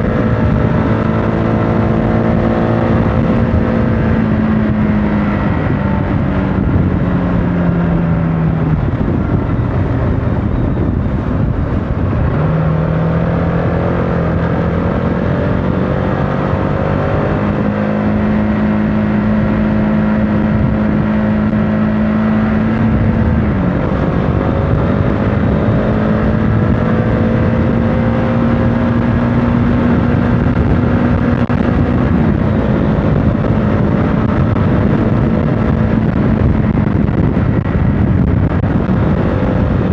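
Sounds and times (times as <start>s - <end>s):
motorcycle engine riding: 0.0s - 39.9s
wind and road noise: 0.0s - 39.9s.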